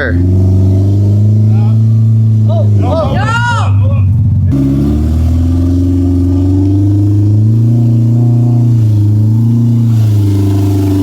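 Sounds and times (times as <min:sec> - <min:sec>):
utility vehicle engine revving: 0:00.0 - 0:11.0.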